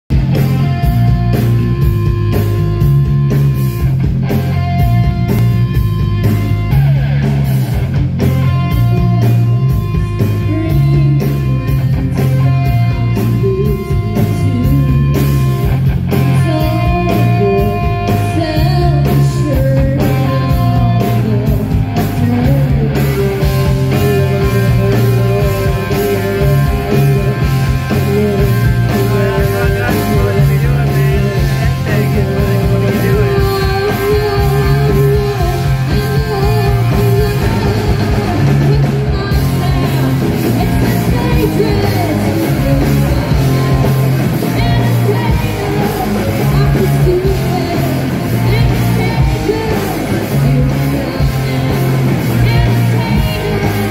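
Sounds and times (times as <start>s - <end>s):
bass guitar: 0.0s - 53.9s
electric guitar: 0.1s - 53.9s
steady drum beat: 0.1s - 53.9s
woman singing: 9.8s - 53.9s.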